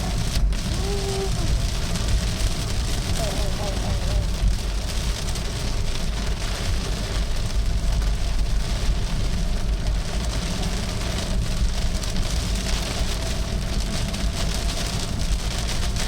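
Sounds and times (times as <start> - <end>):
car rumbling on wet road: 0.0 - 16.0
heavy rain beating on car: 0.0 - 16.0.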